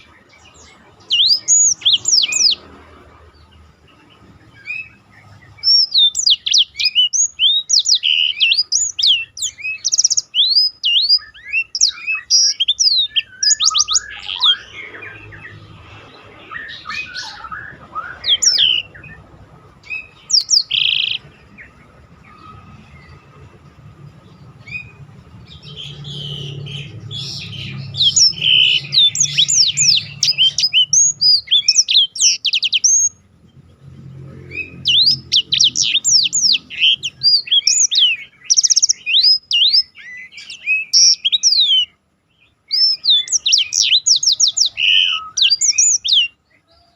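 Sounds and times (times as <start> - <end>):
bird singing chirps and trills: 0.0 - 46.9.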